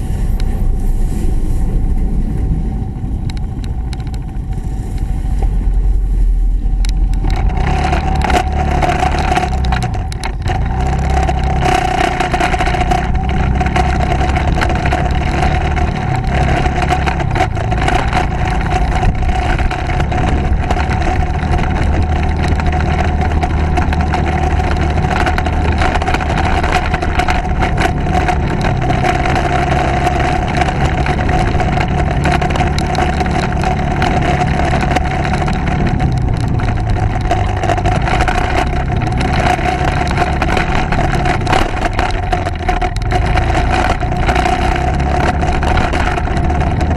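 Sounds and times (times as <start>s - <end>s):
constant whine: 0.0s - 46.9s
motorcycle running: 0.0s - 46.9s.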